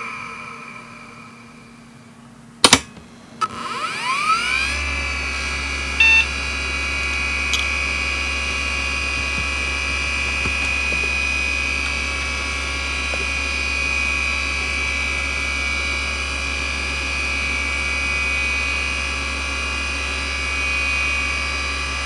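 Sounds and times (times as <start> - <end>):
hard drive spinning whine: 0.0 - 22.0.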